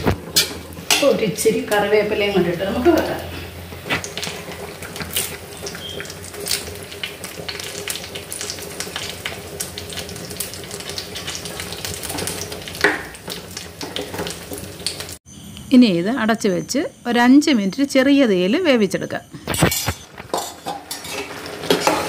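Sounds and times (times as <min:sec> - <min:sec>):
food sizzling in a pan: 0:00.0 - 0:15.2, 0:19.5 - 0:22.0.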